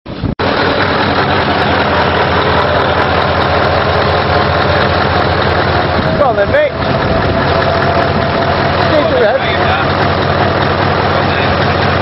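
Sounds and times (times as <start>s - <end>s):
diesel engine idling: 0.1s - 12.0s.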